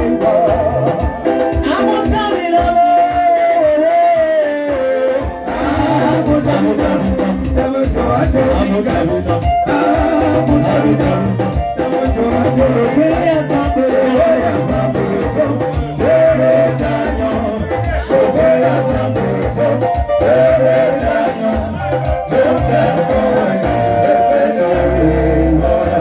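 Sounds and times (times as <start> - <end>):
keyboard accompaniment: 0.0 - 26.0
men singing gospel song: 0.0 - 26.0.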